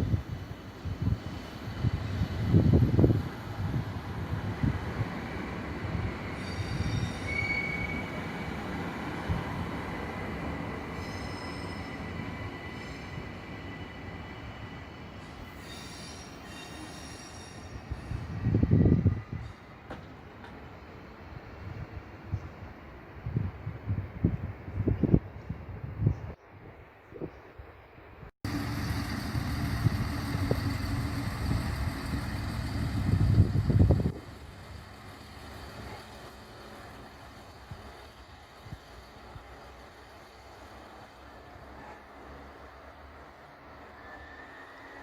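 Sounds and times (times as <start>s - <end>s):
train wheels squealing on rails: 0.0s - 21.6s, 28.5s - 45.0s
low train rumble: 0.0s - 27.0s, 27.6s - 45.0s.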